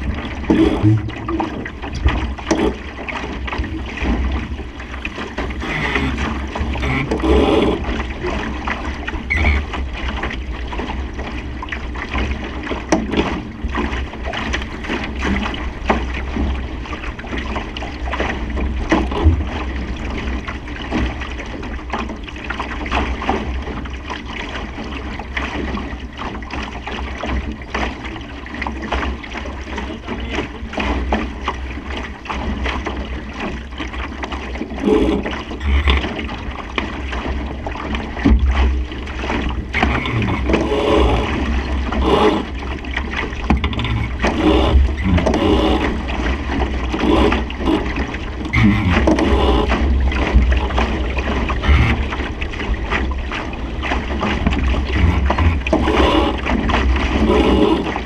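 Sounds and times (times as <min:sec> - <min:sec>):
water rushing along hull: 0:00.0 - 0:58.0.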